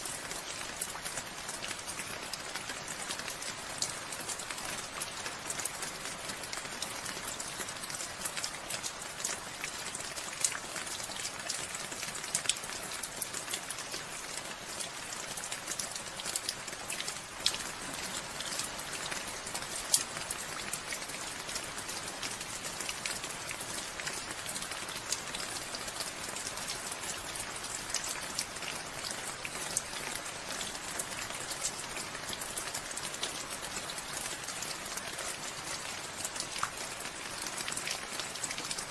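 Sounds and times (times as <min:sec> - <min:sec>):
raindrops ticking on surfaces: 0:00.0 - 0:38.9
steady rainfall: 0:00.0 - 0:38.9.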